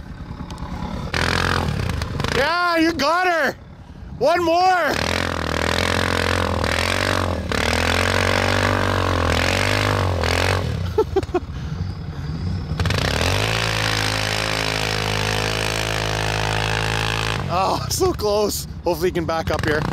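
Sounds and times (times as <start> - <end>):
quad engine revving: 0.0 - 3.3, 4.3 - 17.9, 19.3 - 19.9.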